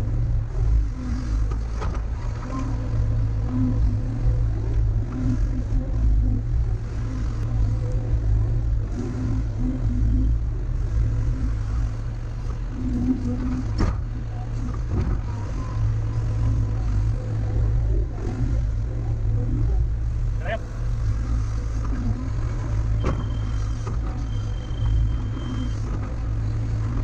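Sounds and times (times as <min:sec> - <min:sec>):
digging machine engine droning: 0:00.0 - 0:27.0.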